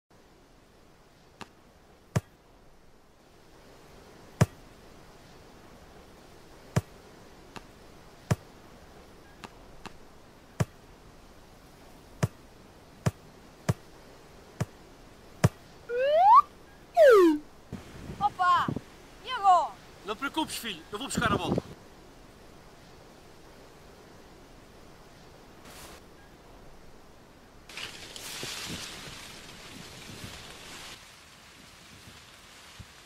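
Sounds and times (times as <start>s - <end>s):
faint outdoor background: 0.1s - 33.0s.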